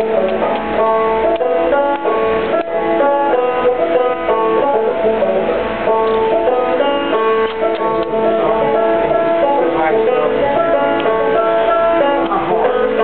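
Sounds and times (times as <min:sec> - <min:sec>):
banjo picking: 0:00.0 - 0:13.0
string band music: 0:00.0 - 0:13.0.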